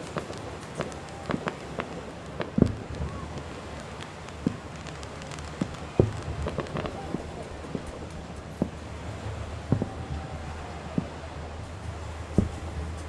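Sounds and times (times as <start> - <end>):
deep firework bang: 0.0 - 13.0
fireworks popping and crackling: 0.0 - 13.0.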